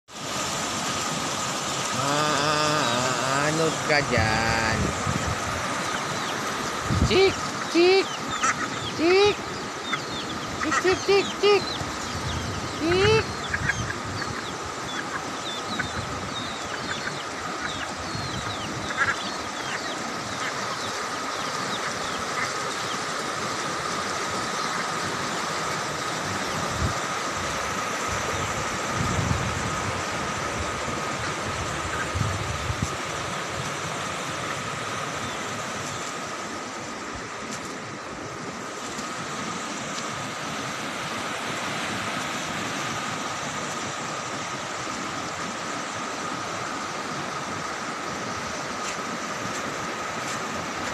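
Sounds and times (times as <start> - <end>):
flooding river rushing: 0.1 - 50.9.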